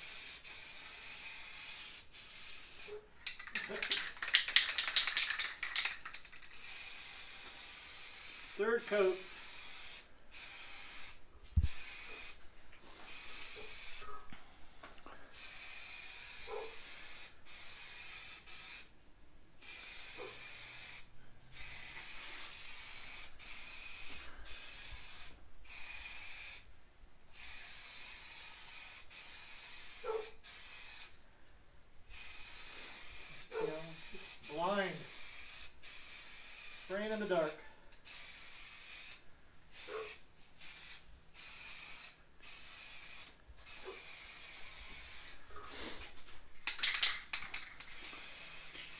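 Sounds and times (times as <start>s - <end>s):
spray paint can hissing: 0.0s - 12.4s, 13.0s - 14.2s, 15.3s - 18.9s, 19.6s - 26.7s, 27.3s - 31.2s, 32.1s - 46.0s, 46.6s - 48.9s.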